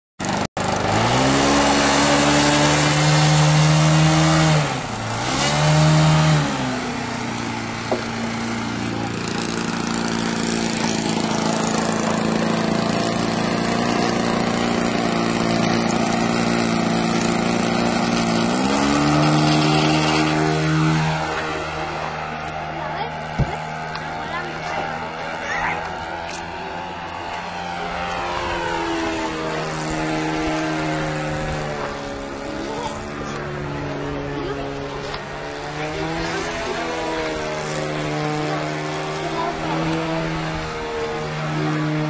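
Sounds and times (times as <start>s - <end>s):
model airplane engine revving: 0.2s - 42.0s.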